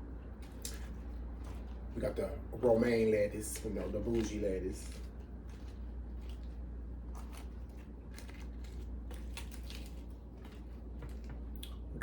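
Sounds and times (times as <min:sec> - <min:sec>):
steady low hum: 0:00.0 - 0:12.0
lettuce leaves crackling: 0:00.3 - 0:11.8.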